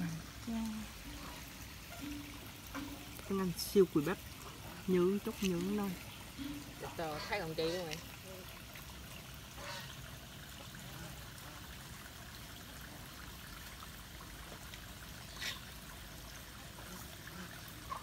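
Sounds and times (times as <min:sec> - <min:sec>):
faint trickling water: 0:00.0 - 0:18.0.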